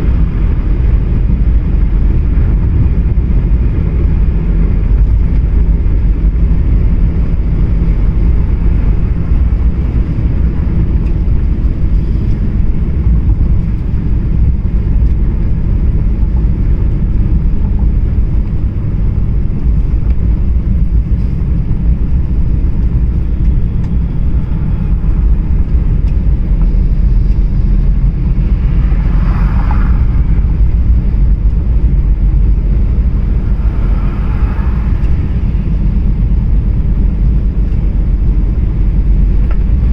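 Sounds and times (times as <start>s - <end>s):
car driving on road rumble: 0.0s - 39.9s.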